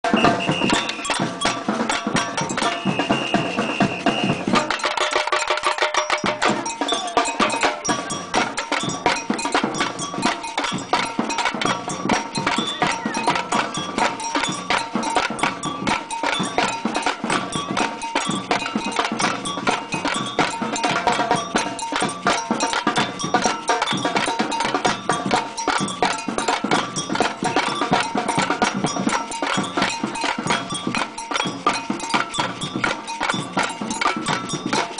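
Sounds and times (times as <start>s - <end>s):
bells ringing: 0.0s - 34.9s
samba drums: 0.0s - 34.9s.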